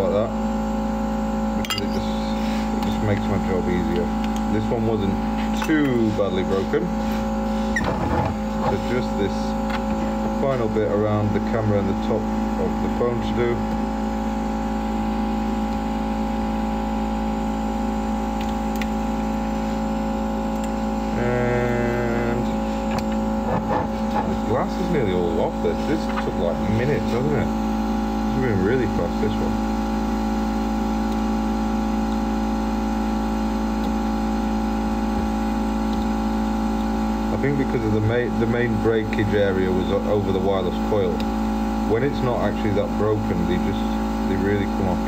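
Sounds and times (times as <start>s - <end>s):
electric fan motor hum: 0.0s - 45.0s.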